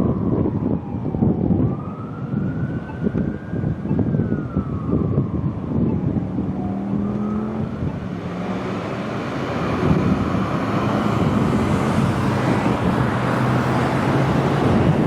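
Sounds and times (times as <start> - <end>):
fire engine driving past: 0.0 - 15.0
road noise: 0.0 - 15.0.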